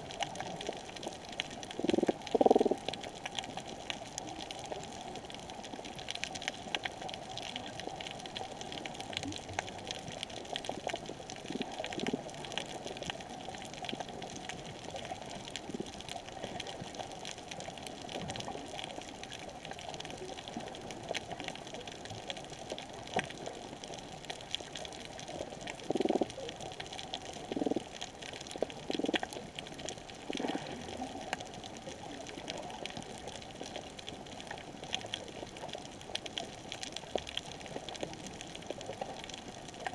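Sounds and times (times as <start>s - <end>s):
snapping shrimp crackle underwater: 0.0s - 39.9s.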